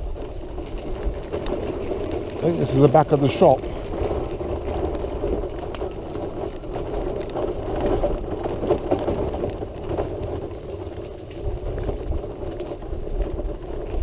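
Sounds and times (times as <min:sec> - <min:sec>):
small rattles and clicks: 0:00.0 - 0:14.0
wheelchair rolling on hard path: 0:00.0 - 0:14.0.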